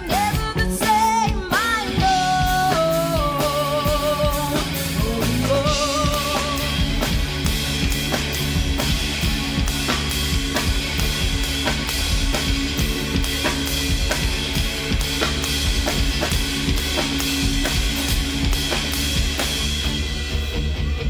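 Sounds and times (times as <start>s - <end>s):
bass drum and snare beat: 0.0s - 21.0s
live band playing: 0.0s - 21.0s.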